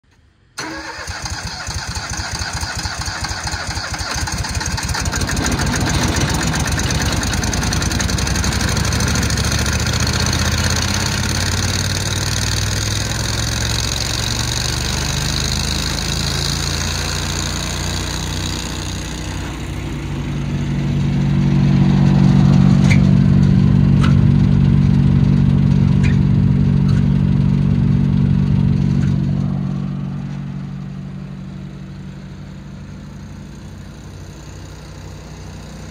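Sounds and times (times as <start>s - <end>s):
wood chipper engine running: 0.6s - 35.9s.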